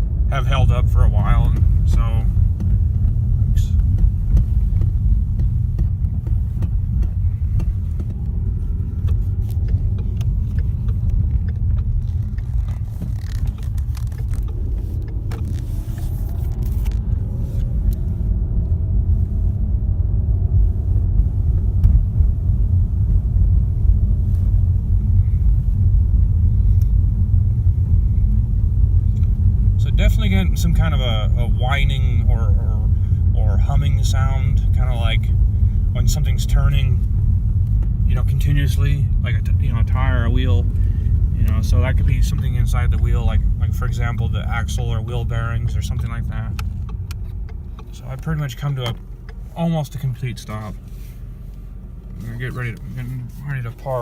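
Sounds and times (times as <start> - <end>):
tyre road noise rumble: 0.0 - 54.0.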